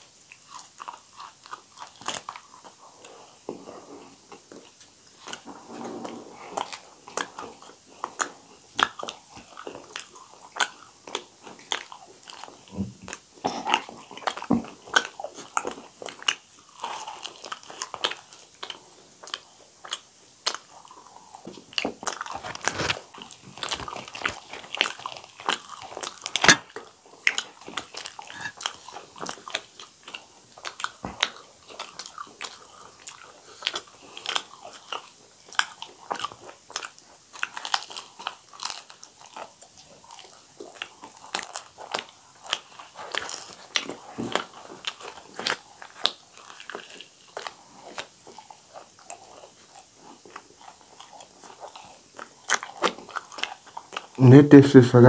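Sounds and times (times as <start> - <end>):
crunchy chewing: 0.0 - 54.2.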